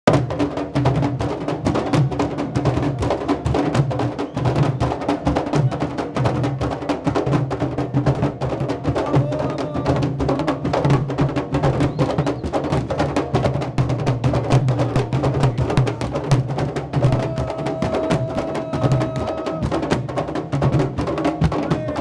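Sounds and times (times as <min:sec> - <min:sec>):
deep pounding of drums: 0:00.1 - 0:22.0.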